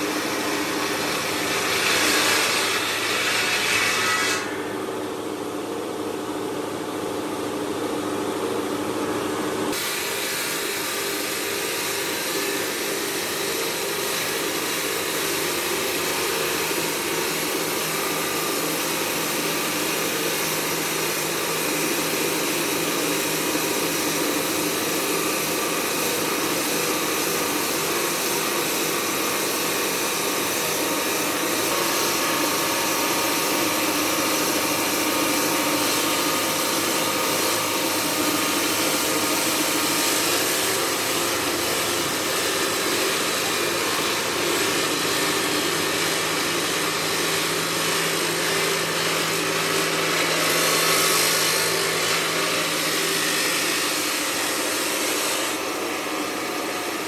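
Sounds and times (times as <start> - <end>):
stone cutting machinery hissing: 0.0 - 5.4, 9.7 - 57.0.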